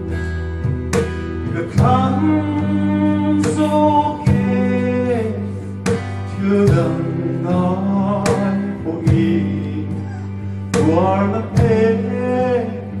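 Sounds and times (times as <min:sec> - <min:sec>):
instrumental accompaniment: 0:00.0 - 0:13.0
man singing through loudspeakers: 0:01.5 - 0:13.0.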